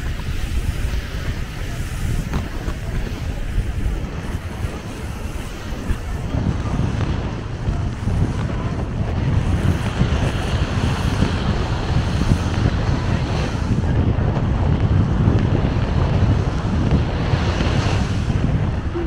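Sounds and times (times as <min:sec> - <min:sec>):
surf rushing: 0:00.0 - 0:19.0
wind buffeting microphone: 0:00.0 - 0:19.0.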